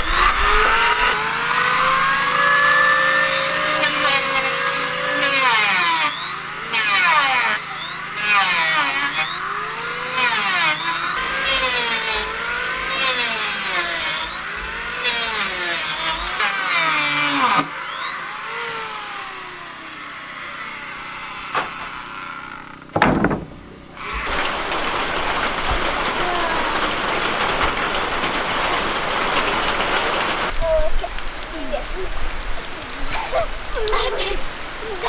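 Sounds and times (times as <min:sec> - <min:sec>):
saw cutting through wood: 0:00.0 - 0:35.0.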